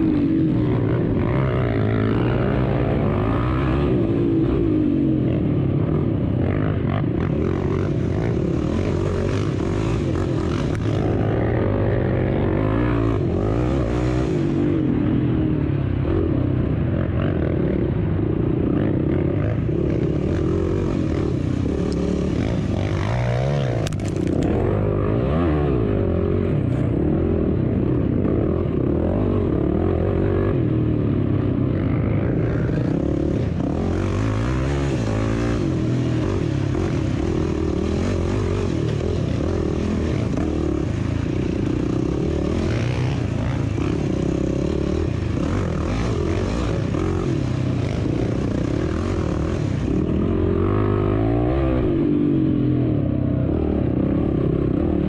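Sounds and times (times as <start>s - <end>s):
engine revving: 0.0s - 15.5s, 18.7s - 31.0s, 31.6s - 52.9s
wind or road noise: 0.0s - 55.0s.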